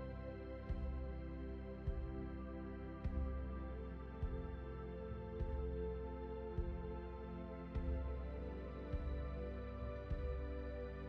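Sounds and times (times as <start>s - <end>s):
soft low beats: 0.0s - 10.9s
calm sustained background music: 0.0s - 11.0s.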